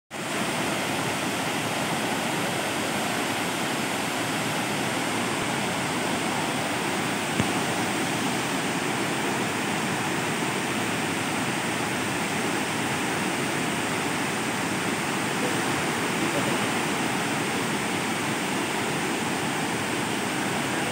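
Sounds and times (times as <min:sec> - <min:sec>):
waterfall rushing: 0:00.2 - 0:20.9.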